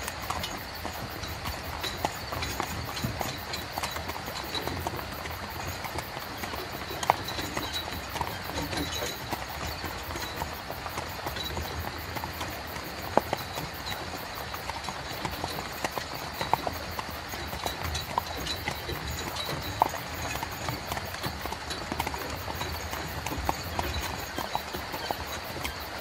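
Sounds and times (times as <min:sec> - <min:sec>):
carriage rolling noise: 0:00.0 - 0:26.0
horse hooves clip-clopping: 0:00.0 - 0:26.0.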